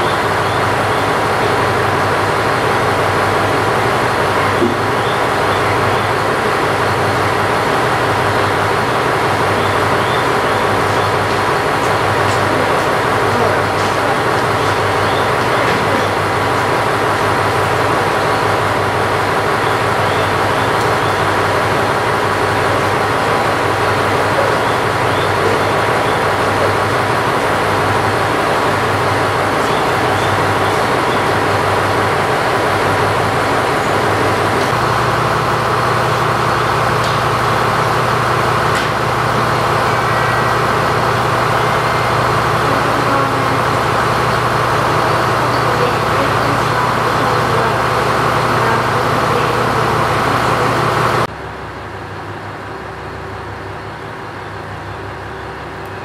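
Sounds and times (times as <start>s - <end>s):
diesel railcar engine running: 0.0s - 56.0s.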